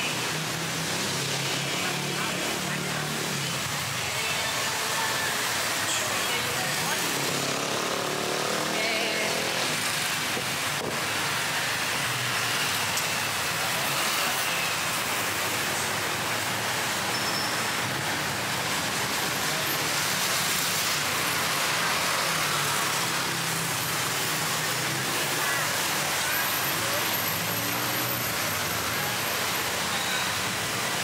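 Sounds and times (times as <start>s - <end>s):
busy road traffic: 0.0s - 31.0s.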